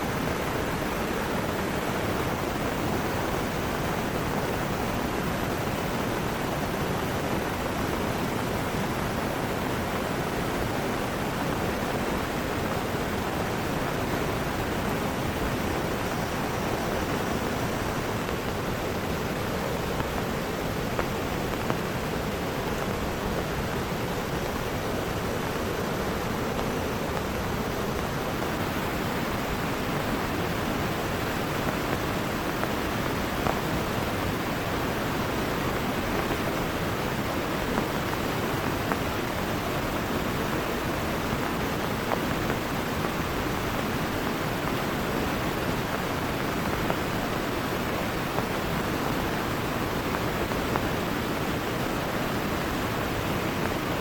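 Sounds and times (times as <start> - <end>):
heavy rain: 0.0 - 54.0
rushing river water: 0.0 - 54.0.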